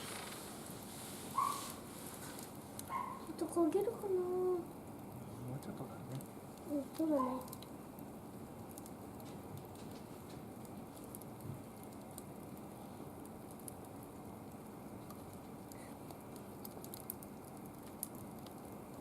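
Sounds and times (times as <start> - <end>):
fire crackling and popping: 0.0 - 19.0
wood fire rushing: 0.0 - 19.0.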